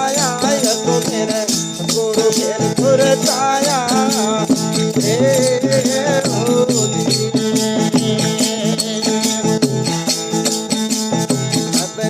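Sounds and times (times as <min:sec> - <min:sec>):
held instrumental tones: 0:00.0 - 0:12.0
rattling hand percussion: 0:00.0 - 0:12.0.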